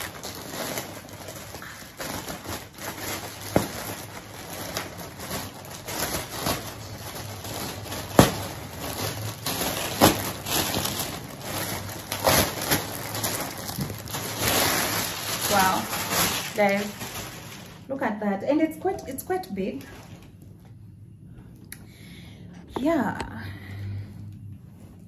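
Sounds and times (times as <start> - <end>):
plastic packaging crinkling: 0.0 - 17.9, 18.5 - 20.7.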